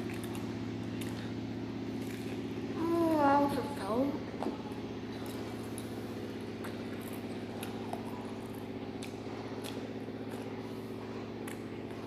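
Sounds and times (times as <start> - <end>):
chewing crispy fried chicken: 0.0 - 2.8, 4.3 - 12.0
steady low hum: 0.0 - 12.0.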